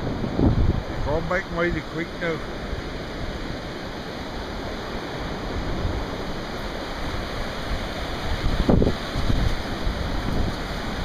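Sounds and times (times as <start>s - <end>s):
wind on the microphone: 0.0s - 1.4s, 2.7s - 11.0s
surf washing up a beach: 0.0s - 11.0s.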